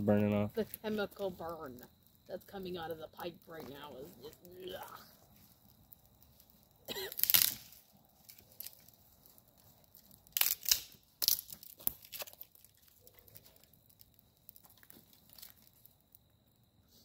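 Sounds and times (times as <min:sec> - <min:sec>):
twigs and leaves crunching: 0:00.6 - 0:16.3.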